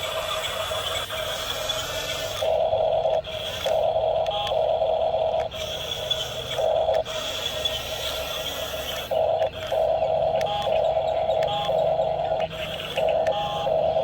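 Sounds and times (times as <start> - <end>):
high-pitched motor whine: 0.0 - 14.0
lower electric motor whine: 0.0 - 14.0.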